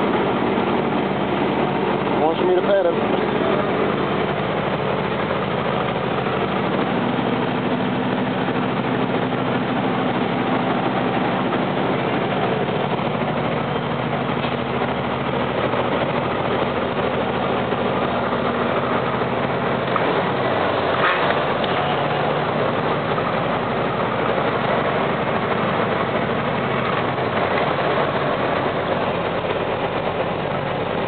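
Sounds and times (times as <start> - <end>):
road noise: 0.0 - 31.0
truck diesel engine humming: 0.0 - 31.0.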